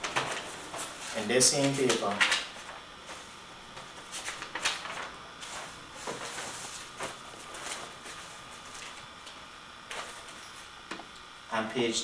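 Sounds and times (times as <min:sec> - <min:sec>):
newspaper pages rustling: 0:00.0 - 0:09.2, 0:09.8 - 0:10.7.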